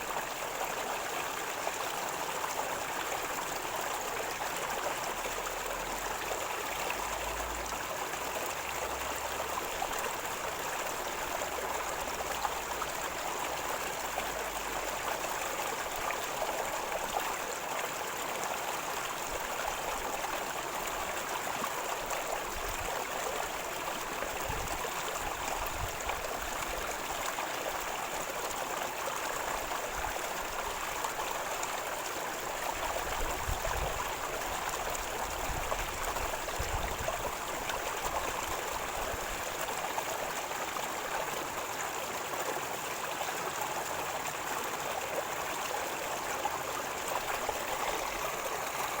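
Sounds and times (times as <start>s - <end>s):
river water gurgling over stones: 0.0s - 49.0s.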